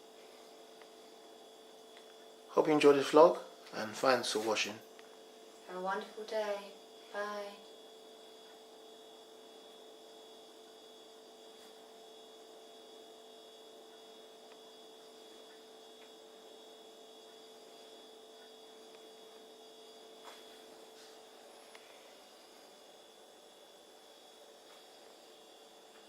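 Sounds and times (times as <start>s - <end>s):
faint electrical hum: 0.0s - 26.0s
thin high whine: 0.0s - 26.0s.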